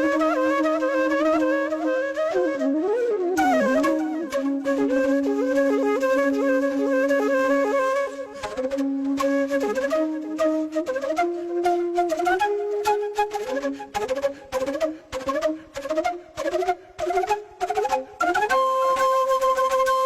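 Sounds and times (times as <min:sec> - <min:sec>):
flute melody: 0:00.0 - 0:20.0.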